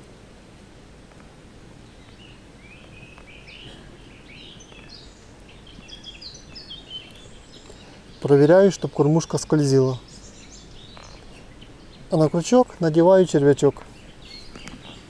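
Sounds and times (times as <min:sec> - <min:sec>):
outdoor background hiss: 0:00.0 - 0:15.0
small bird chirping: 0:01.8 - 0:15.0.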